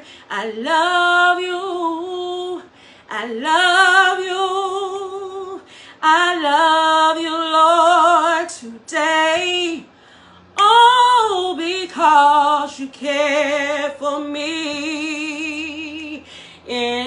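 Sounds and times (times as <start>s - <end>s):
woman singing unaccompanied: 0.0s - 9.9s, 10.5s - 17.0s.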